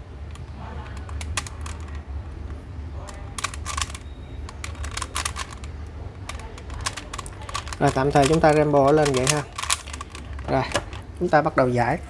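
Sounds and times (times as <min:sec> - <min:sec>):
puzzle cube plastic clicks: 0:00.2 - 0:11.4.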